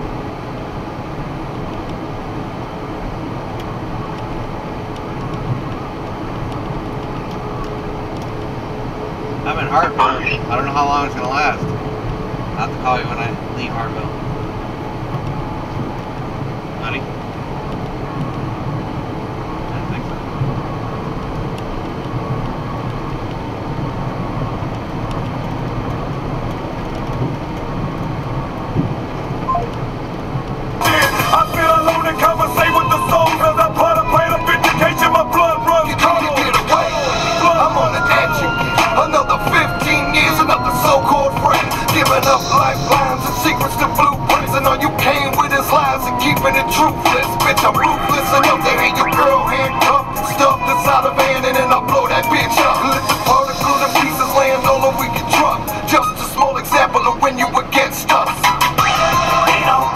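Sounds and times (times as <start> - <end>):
truck road and engine noise: 0.0 - 59.9.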